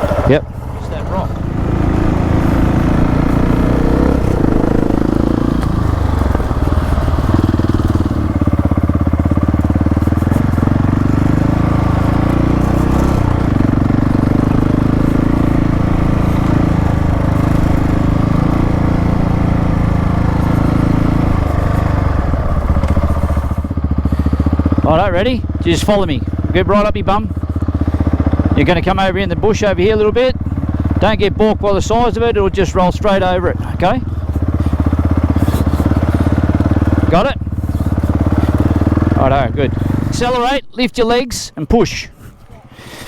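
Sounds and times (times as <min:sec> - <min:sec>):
motorcycle engine idling: 0:00.0 - 0:40.5.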